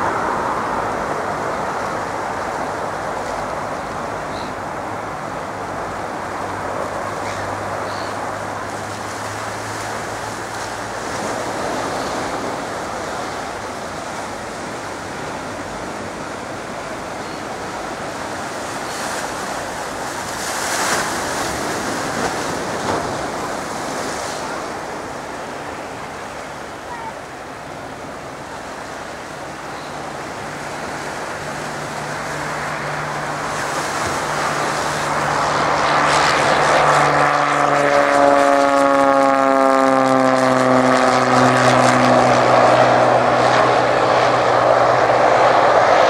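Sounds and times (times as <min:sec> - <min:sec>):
distant propeller plane engine drone: 0:00.0 - 0:46.0.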